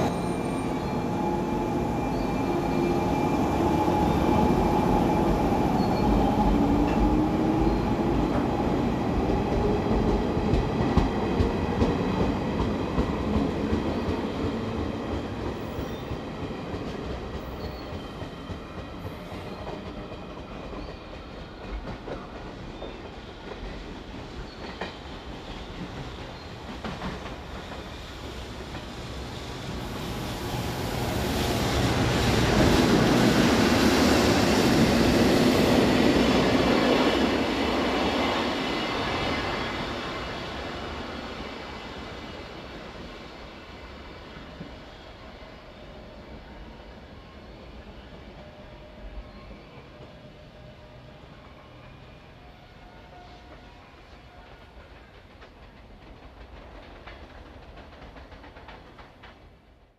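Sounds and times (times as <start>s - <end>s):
electric locomotive passing: 0.0s - 59.9s.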